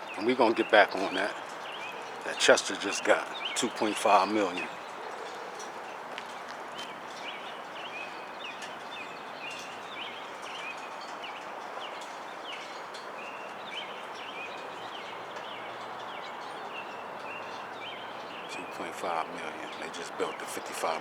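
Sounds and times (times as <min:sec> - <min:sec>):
outdoor background hiss: 0:00.0 - 0:21.0
small birds chirping: 0:00.0 - 0:21.0.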